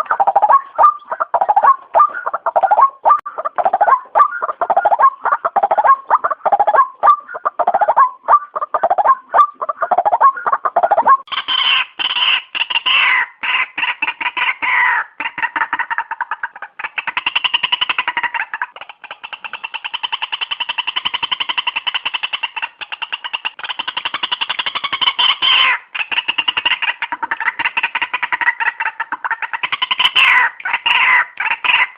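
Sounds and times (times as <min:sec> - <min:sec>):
waterhen calling rapidly: 0:00.0 - 0:31.9.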